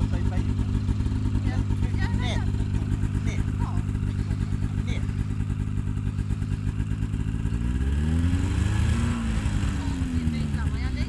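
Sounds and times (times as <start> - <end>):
snowmobile engine idling and revving: 0.0 - 11.0.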